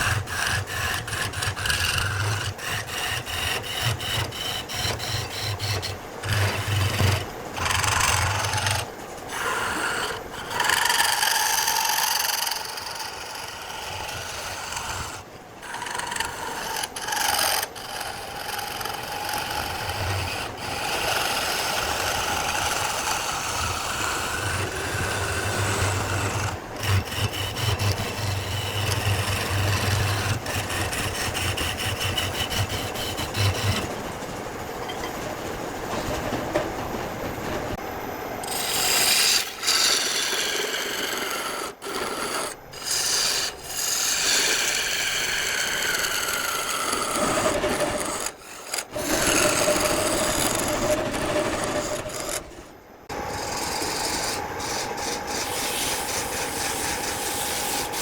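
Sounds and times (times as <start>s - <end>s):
power tool rasping wood: 0.0s - 34.2s, 38.4s - 58.0s.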